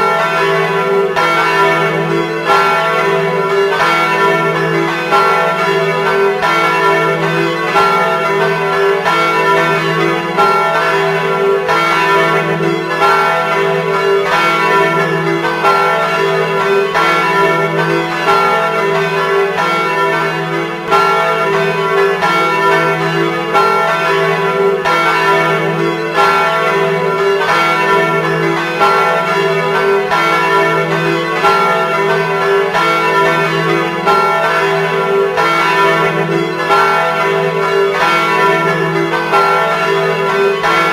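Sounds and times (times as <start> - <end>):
church tower bells pealing: 0.0 - 40.9.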